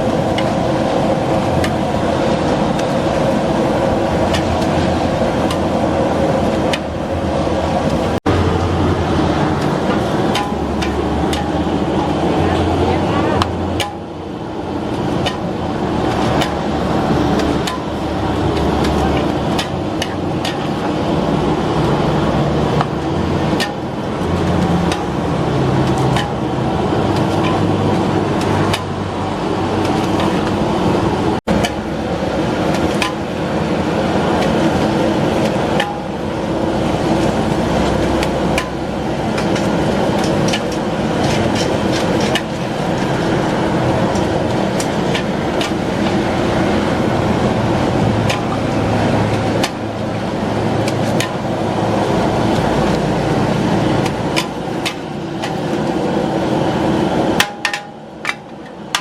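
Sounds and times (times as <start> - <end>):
traffic noise: 0.0 - 59.0.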